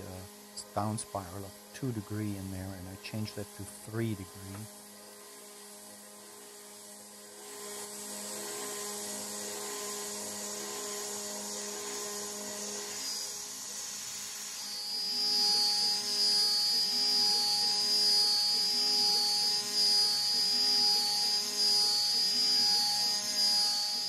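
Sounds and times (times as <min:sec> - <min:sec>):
end mill cutting metal: 0:00.0 - 0:24.0
router spindle whining: 0:00.0 - 0:24.0.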